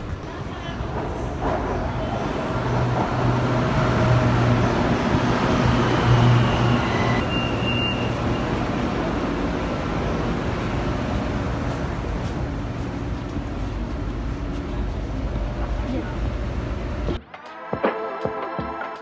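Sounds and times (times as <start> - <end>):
rush of passing train cars: 0.0 - 17.2
train motors humming: 0.0 - 17.2.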